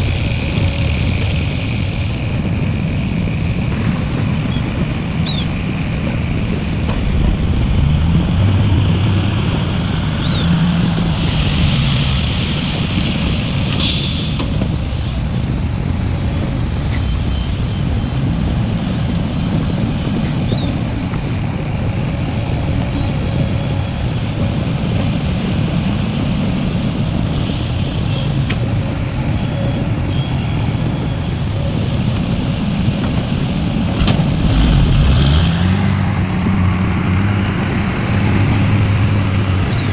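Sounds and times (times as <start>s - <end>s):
hiss: 0.0s - 39.8s
heavy diesel machinery running: 0.0s - 39.9s.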